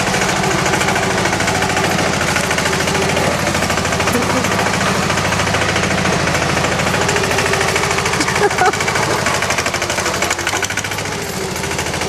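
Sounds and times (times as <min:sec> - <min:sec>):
garden tiller engine running: 0:00.0 - 0:12.0.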